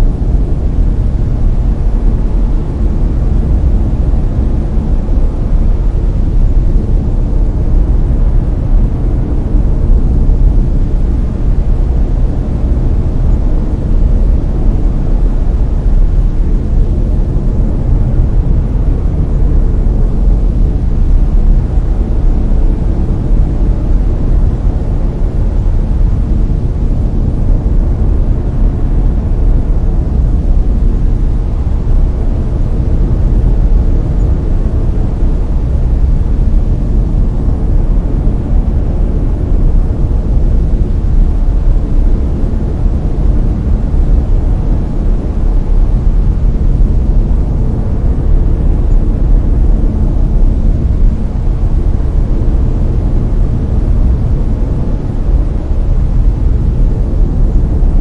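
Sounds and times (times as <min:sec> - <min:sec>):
brown noise: 0:00.0 - 0:58.0.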